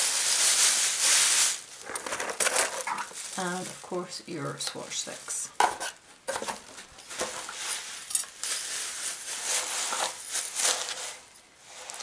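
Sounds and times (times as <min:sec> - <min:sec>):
tissue paper rustling: 0:00.0 - 0:05.4, 0:06.4 - 0:12.0.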